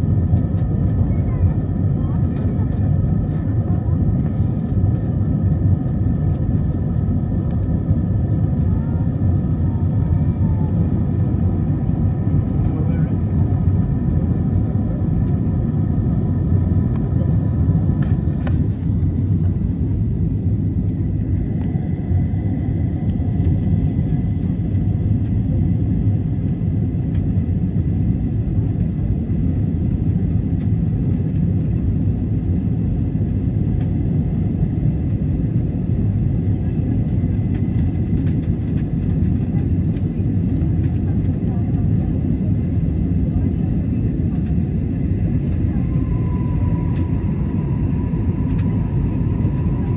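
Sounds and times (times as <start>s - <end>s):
airliner engine rumble: 0.0s - 49.9s.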